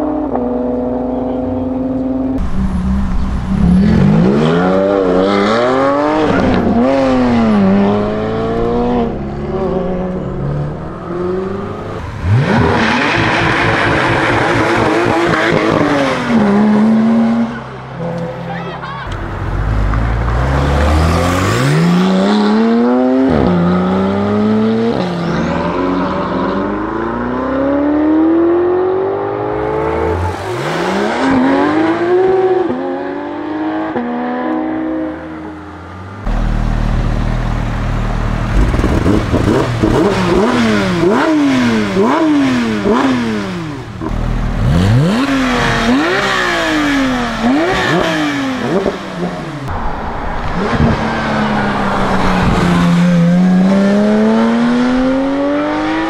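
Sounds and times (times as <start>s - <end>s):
car engine accelerating: 0.0s - 18.5s, 19.1s - 56.0s
car engine revving: 0.0s - 18.5s, 19.1s - 56.0s.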